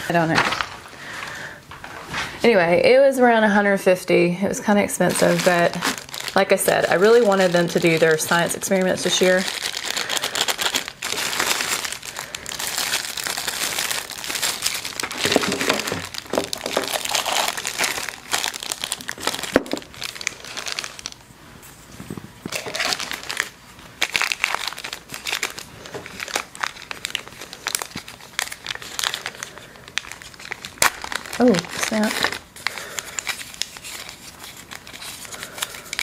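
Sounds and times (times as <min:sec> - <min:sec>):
plastic bags crinkling: 0:00.0 - 0:02.2, 0:04.9 - 0:36.0.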